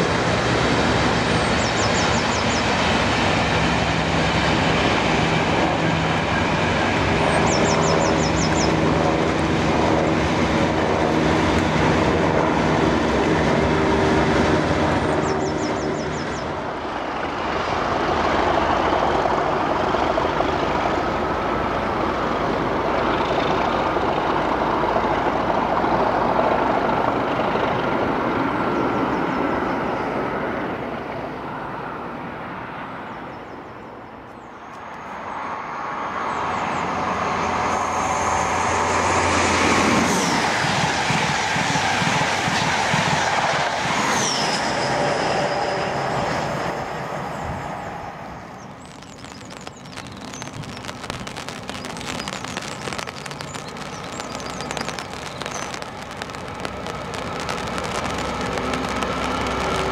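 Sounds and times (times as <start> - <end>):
train engine hum: 0.0 - 59.9
train running noise: 0.0 - 59.9.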